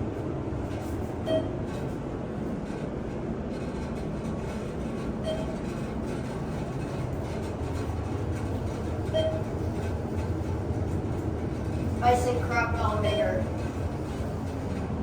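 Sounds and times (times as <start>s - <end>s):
elevator car rumbling: 0.0s - 15.0s.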